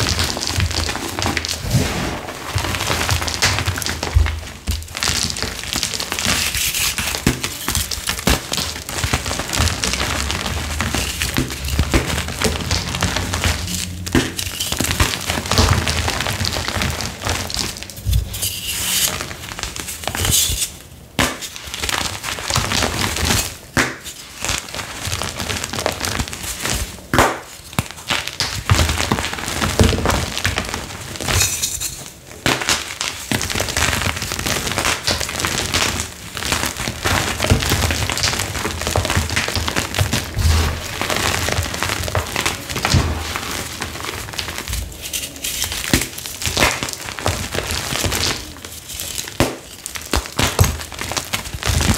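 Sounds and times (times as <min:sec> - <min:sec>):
hands crumbling chalk: 0:00.0 - 0:51.9.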